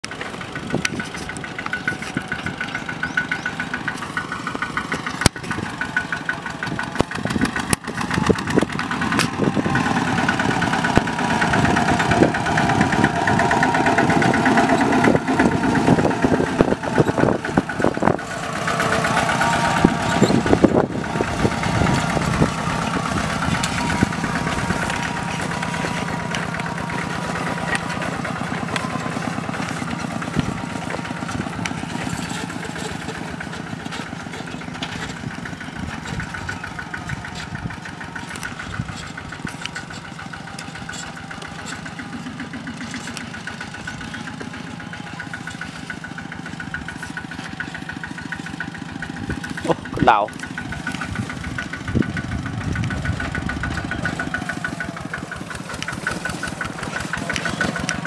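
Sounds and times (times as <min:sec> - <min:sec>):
walking tractor engine running: 0:00.0 - 0:58.0.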